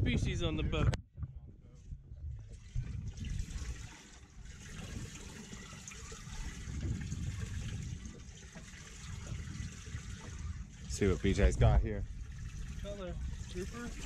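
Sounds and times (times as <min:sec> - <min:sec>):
water splashing and running: 0:02.4 - 0:14.0.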